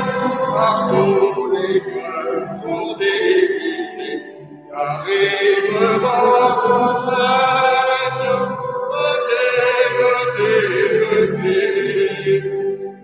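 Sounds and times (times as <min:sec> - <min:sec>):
man singing a hymn over microphone: 0:00.0 - 0:12.9.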